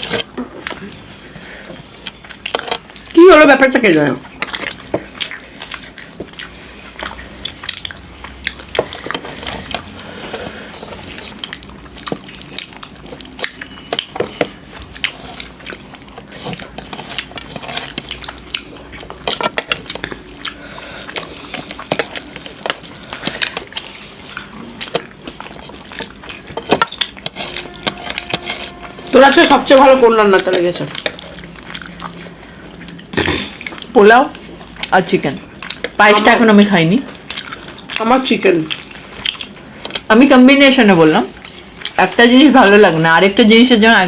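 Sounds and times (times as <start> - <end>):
mouths chewing food: 0.0 - 44.0.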